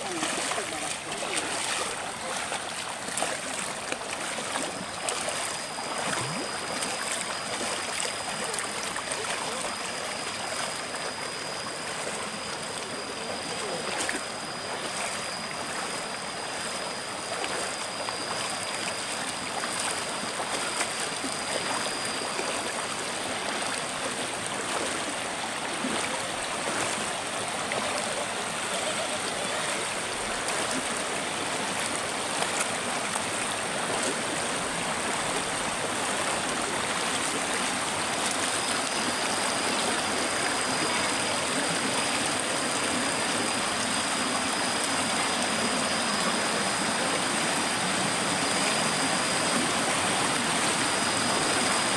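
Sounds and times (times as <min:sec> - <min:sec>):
faint high-pitched tone: 0:00.0 - 0:51.9
river rushing over stones: 0:00.0 - 0:51.9.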